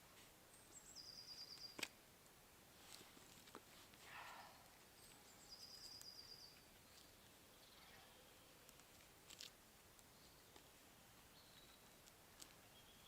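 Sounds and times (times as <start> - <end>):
soft rustle: 0.0 - 0.4, 2.6 - 12.8.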